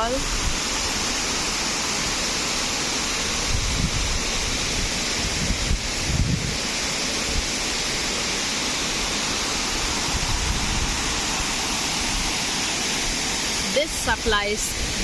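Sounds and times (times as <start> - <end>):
waterfall crashing: 0.0 - 15.0.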